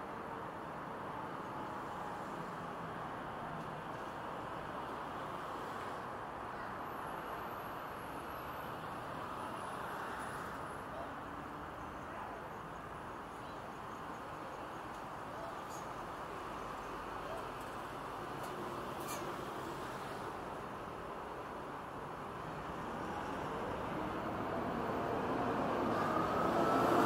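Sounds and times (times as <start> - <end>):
road traffic rumble: 0.1 - 27.0.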